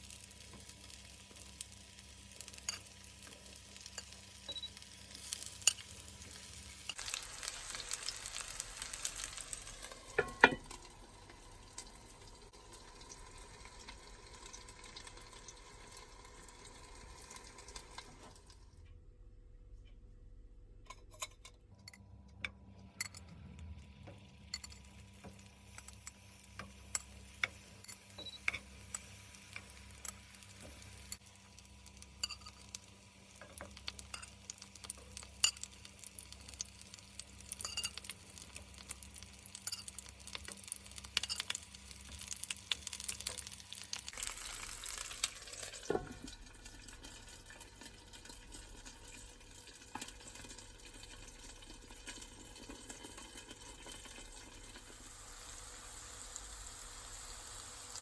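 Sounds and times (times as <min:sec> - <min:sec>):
food sizzling in a frying pan: 0:00.0 - 0:18.6, 0:23.6 - 0:58.0.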